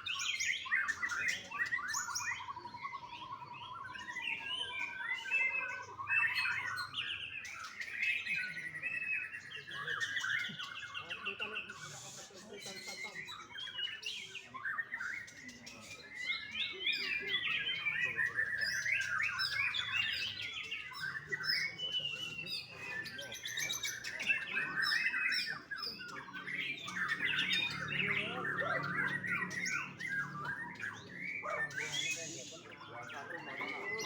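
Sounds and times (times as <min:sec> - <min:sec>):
bird singing chirps and whistles: 0:00.0 - 0:34.0.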